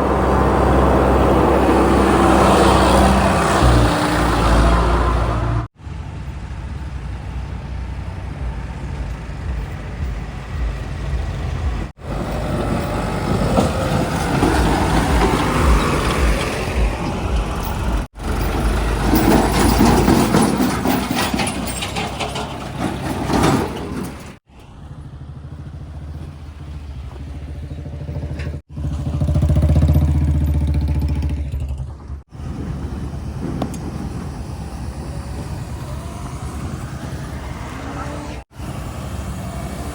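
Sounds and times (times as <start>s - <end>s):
heavy diesel engines under load: 0.0s - 39.9s.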